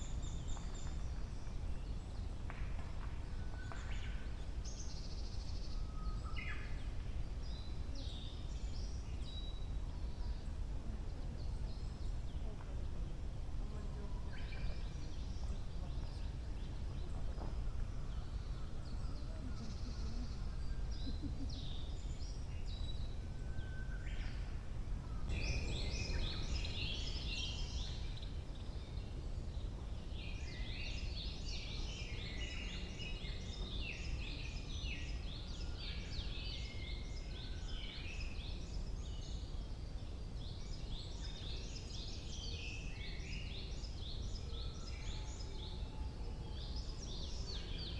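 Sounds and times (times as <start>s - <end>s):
birds singing: 0.0s - 47.9s.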